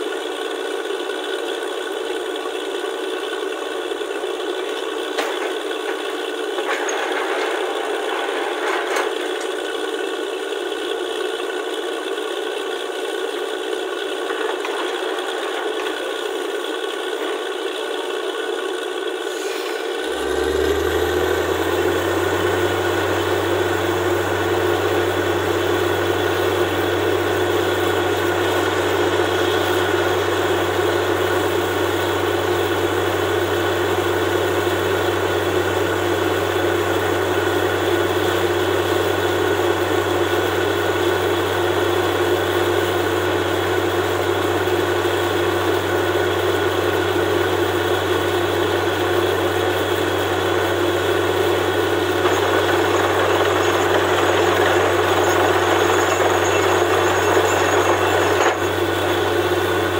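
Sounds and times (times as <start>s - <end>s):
drilling rig engine drone: 0.9s - 59.9s.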